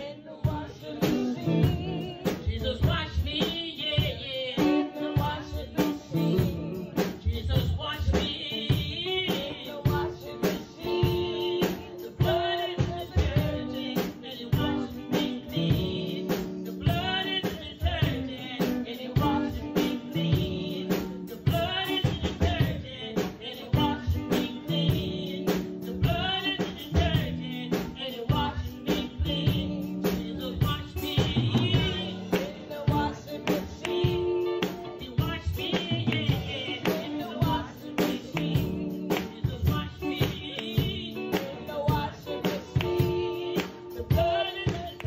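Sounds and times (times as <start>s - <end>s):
band playing: 0.0s - 45.0s
drum kit beat: 0.0s - 45.0s
woman singing gospel: 0.0s - 45.0s.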